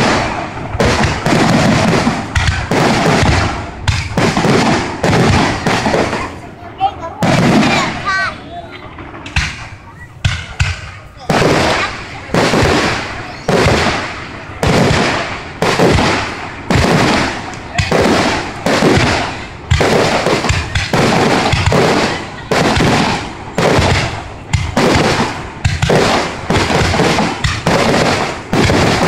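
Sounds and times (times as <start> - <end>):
fireworks booming: 0.0 - 29.0.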